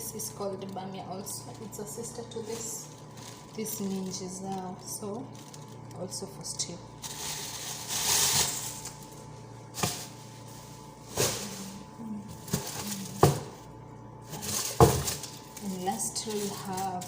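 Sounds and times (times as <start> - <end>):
rustling vegetable packaging: 0.0 - 13.6, 14.2 - 17.0.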